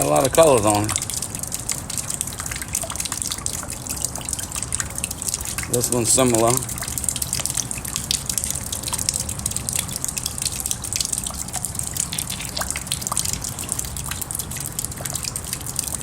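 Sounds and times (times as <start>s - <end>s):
small drips and plinks: 0.0s - 16.0s
steady rain: 0.0s - 16.0s.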